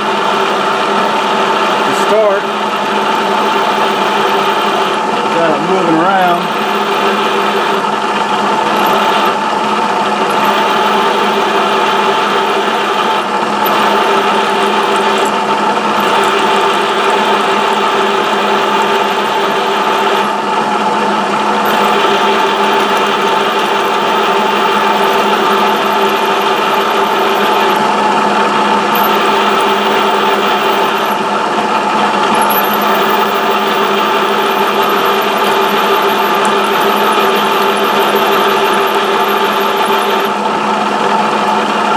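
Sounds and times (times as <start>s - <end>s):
drill cutting aluminum: 0.0s - 20.4s, 21.5s - 40.4s
milling machine spindle hum: 0.0s - 41.9s.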